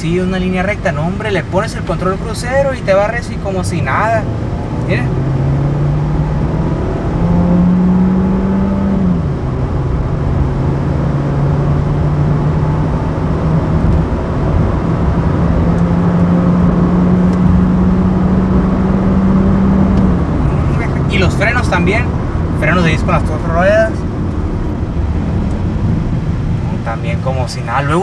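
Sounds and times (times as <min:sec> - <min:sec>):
car engine humming: 0:00.0 - 0:28.0
road and tyre noise: 0:00.0 - 0:28.0.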